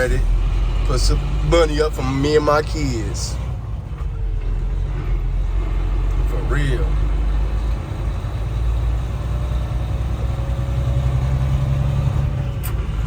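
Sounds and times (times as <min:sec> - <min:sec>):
truck engine low hum: 0:00.0 - 0:13.0.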